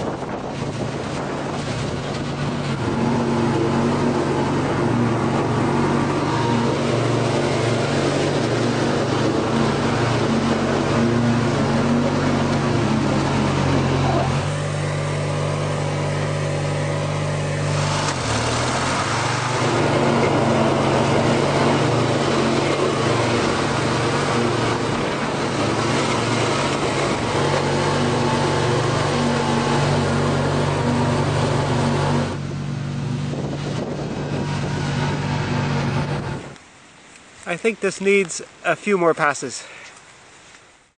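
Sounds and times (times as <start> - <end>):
lawn tractor engine running: 0.0 - 36.6
mower chopping tall grass: 0.0 - 37.8.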